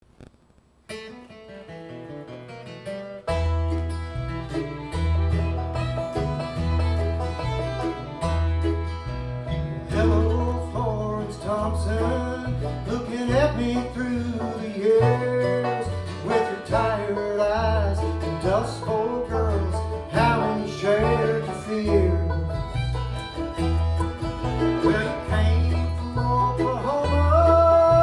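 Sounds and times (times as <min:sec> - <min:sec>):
guitar: 0:00.2 - 0:28.0
picked banjo: 0:01.7 - 0:28.0
bass line: 0:03.3 - 0:28.0.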